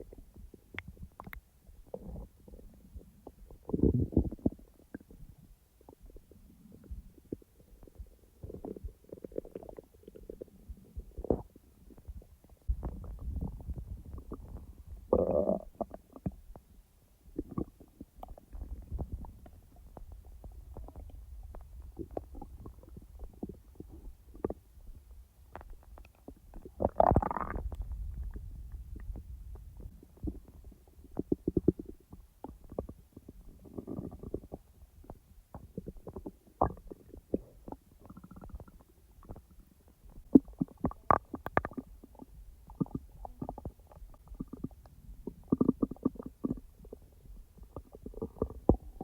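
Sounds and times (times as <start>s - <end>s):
stomach gurgling: 0.0s - 49.0s.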